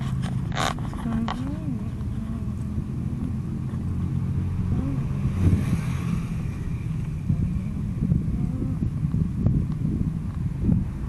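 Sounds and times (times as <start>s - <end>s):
low street rumble: 0.0s - 11.0s
vehicle passing by: 0.0s - 11.0s.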